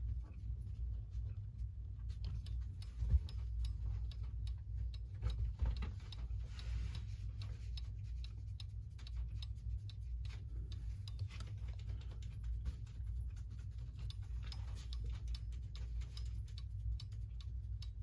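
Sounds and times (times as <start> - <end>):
pendulum clock ticking: 0.0 - 18.0.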